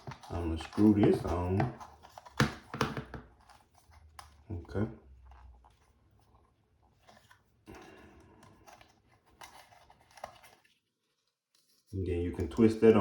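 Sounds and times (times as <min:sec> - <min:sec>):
light plastic rubbing: 0:00.0 - 0:13.0.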